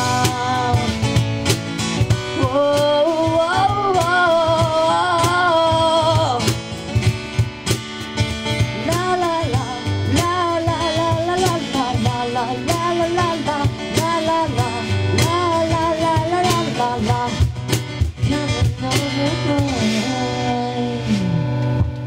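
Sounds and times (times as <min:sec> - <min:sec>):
person singing: 0:00.0 - 0:01.2, 0:02.3 - 0:06.5, 0:08.8 - 0:21.6
cajon hits: 0:00.0 - 0:20.1
acoustic guitar: 0:00.0 - 0:22.0.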